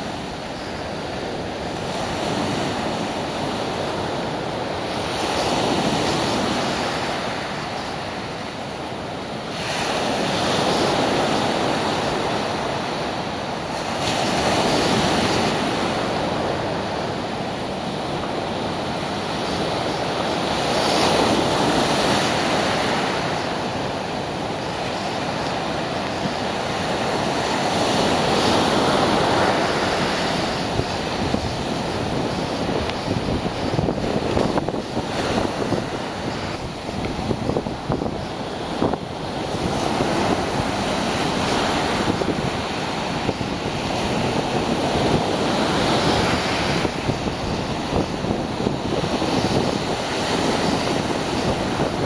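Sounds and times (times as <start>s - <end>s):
heavy surf breaking: 0.0s - 52.0s.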